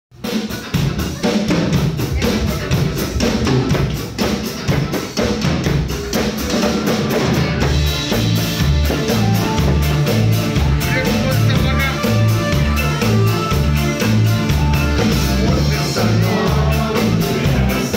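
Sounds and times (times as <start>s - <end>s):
drum kit beat: 0.1s - 17.9s
live band playing: 0.1s - 17.9s
heavy bass line: 0.3s - 17.9s.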